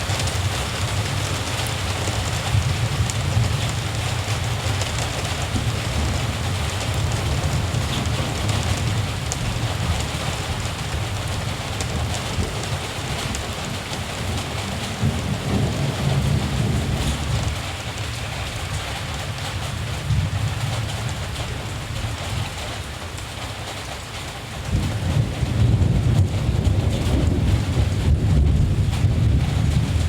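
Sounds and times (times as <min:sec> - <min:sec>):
distant thunder rumbling: 0:00.0 - 0:22.8, 0:24.6 - 0:30.0
steady rain: 0:00.0 - 0:30.0.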